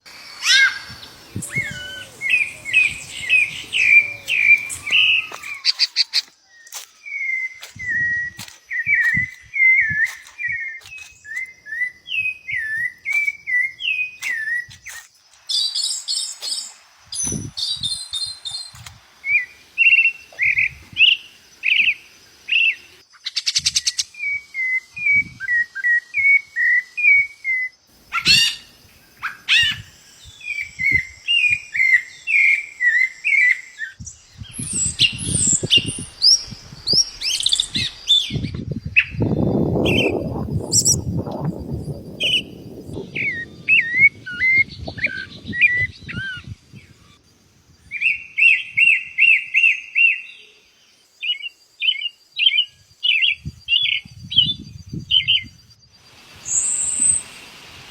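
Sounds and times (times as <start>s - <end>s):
small birds singing: 0.0s - 57.4s.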